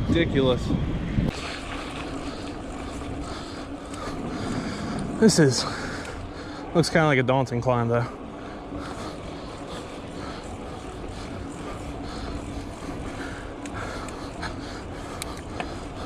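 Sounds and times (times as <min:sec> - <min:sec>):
soft rhythmic pulse: 0:01.4 - 0:16.0.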